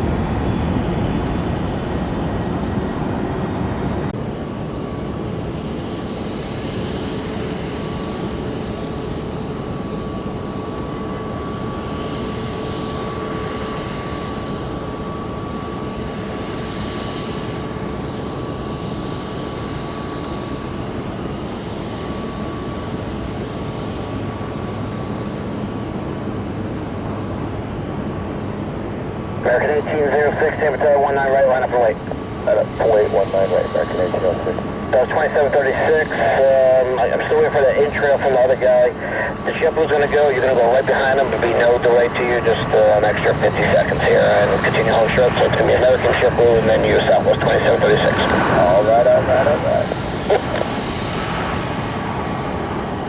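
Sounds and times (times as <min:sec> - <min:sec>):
jet engines rumbling and whining: 0:00.0 - 0:53.0.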